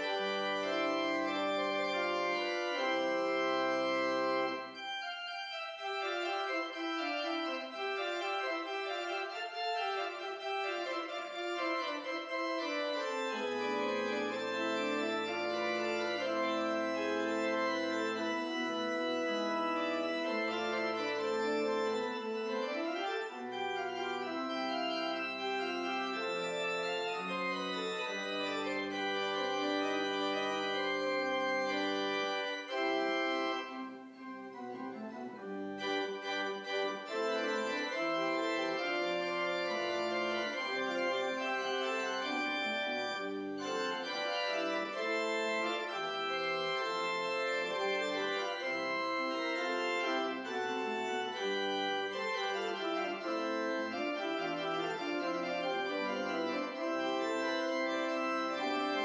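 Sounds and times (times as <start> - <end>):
church organ sustained chords: 0.0 - 59.0.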